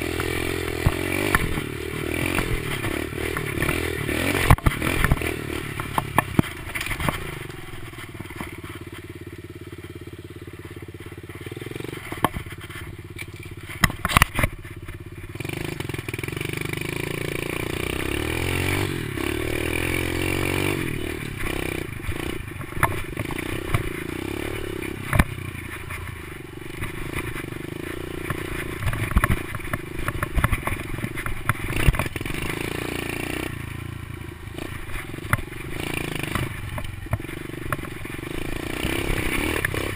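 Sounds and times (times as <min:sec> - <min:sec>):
knocks and rattles over bumps: 0:00.0 - 0:10.0, 0:10.7 - 0:33.6, 0:34.2 - 0:39.9
motorbike engine revving: 0:00.0 - 0:39.9.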